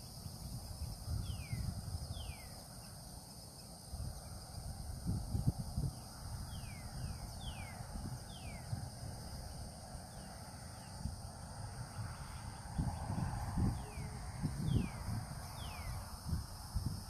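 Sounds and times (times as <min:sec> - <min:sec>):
high insect drone: 0:00.0 - 0:17.0
low wind rumble: 0:00.0 - 0:17.0.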